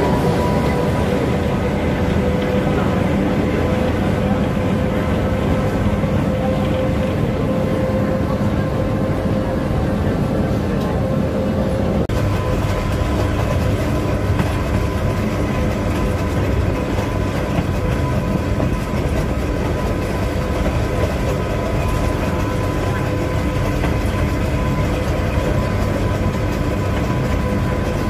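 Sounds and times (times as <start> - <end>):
tram motor whine: 0.0 - 28.0
tram rolling rumble: 0.0 - 28.0.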